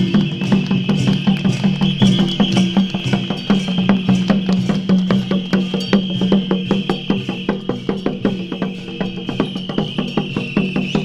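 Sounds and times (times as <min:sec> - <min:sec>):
drum beaten fast: 0:00.0 - 0:11.0
gongs and cymbals ringing: 0:00.0 - 0:11.0.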